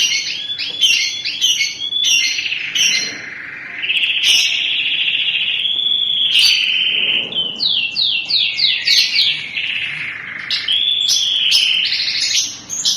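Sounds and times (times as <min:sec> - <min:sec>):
canary singing trills: 0:00.0 - 0:12.9.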